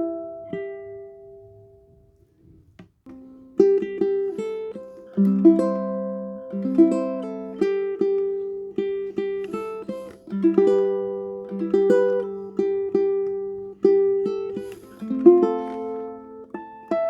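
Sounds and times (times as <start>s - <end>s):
ukulele fingerpicked melody: 0.0s - 17.0s.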